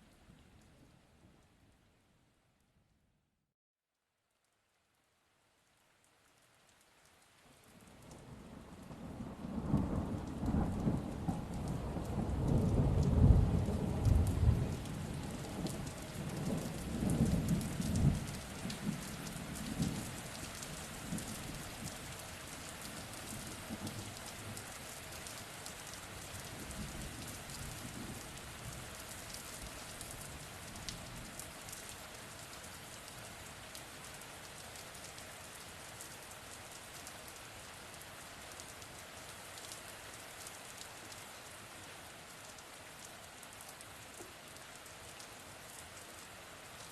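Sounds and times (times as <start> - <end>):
rain falling on surfaces: 0.0 - 2.1, 4.1 - 46.9.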